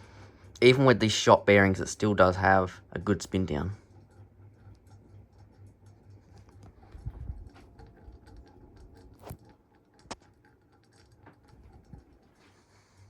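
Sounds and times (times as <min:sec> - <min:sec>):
ceiling fan humming: 0:00.0 - 0:13.0
ticking and rattling: 0:01.8 - 0:12.4.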